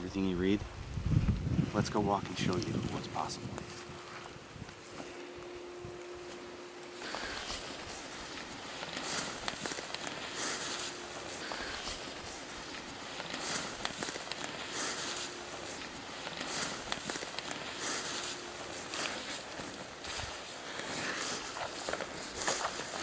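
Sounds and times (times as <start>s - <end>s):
footsteps through dry grass: 0.2s - 23.0s.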